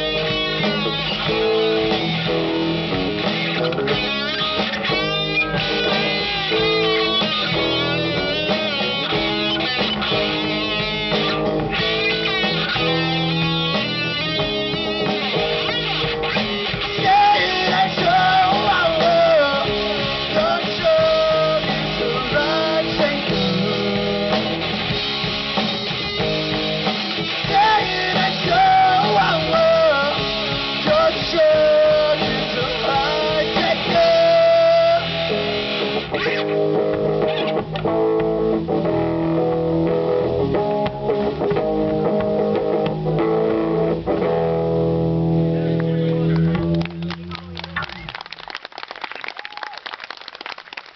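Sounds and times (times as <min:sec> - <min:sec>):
lead guitar melody with bends: 0:00.0 - 0:48.1
live rock band playing: 0:00.0 - 0:48.6.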